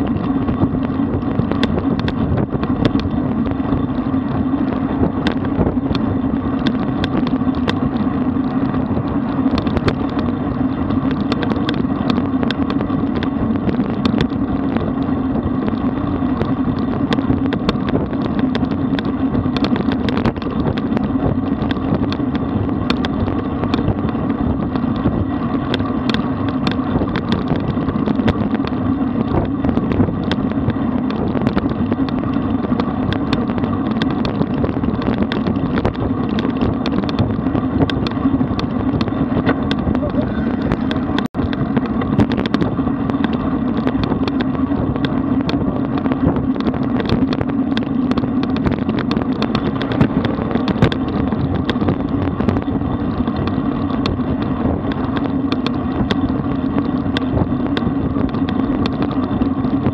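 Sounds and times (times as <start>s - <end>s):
bike clicks and rattles: 0.0s - 59.9s
road bike rumble: 0.0s - 59.9s
wind rush on microphone: 0.0s - 59.9s.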